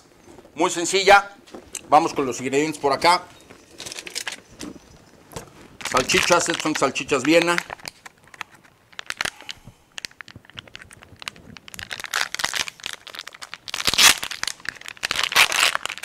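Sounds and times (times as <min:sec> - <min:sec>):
plastic packet crinkling: 0:02.8 - 0:16.0.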